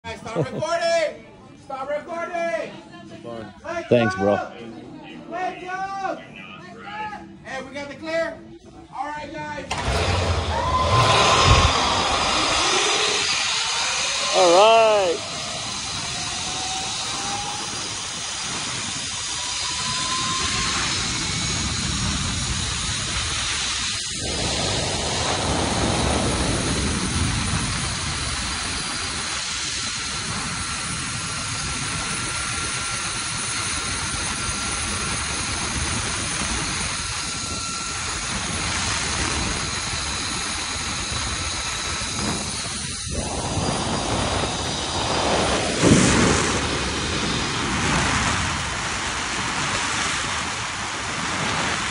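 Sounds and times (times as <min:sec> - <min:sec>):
trolley whine on cable: 0:09.7 - 0:51.9
wind rushing over microphone: 0:09.7 - 0:51.9.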